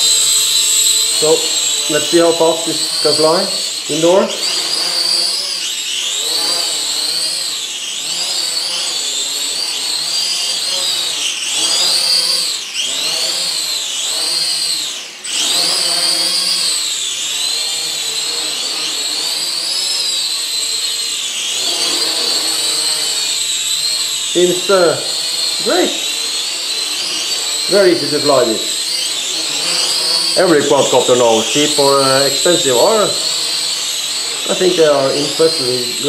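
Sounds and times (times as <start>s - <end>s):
toy quadcopter propellers whining: 0.0s - 36.0s.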